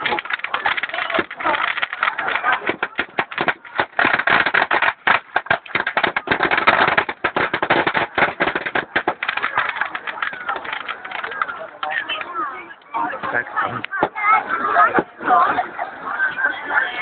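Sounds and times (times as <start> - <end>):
bonfire crackling and popping: 0.0 - 14.4.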